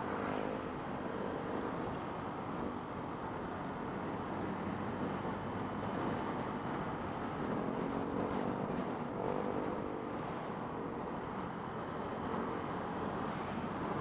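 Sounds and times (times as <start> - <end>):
wind rushing over microphone: 0.8 - 14.0.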